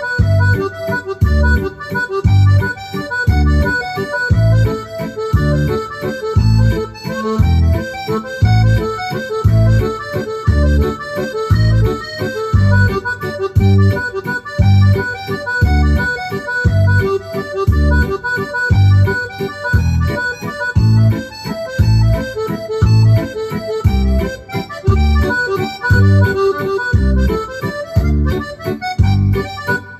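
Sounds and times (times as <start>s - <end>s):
accordion waltz on digital piano: 0.0s - 29.9s.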